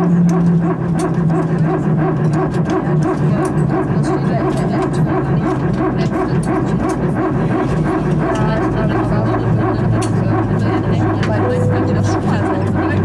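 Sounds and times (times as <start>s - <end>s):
hydraulic pump pulsing buzz: 0.0s - 13.0s.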